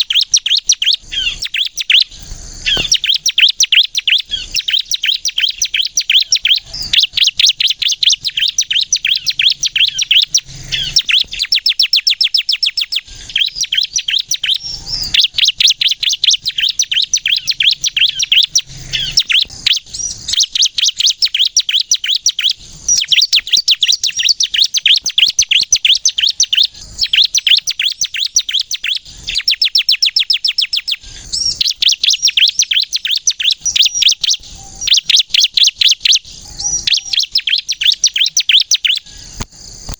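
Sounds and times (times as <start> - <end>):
bird singing high trills: 0.0 - 39.8.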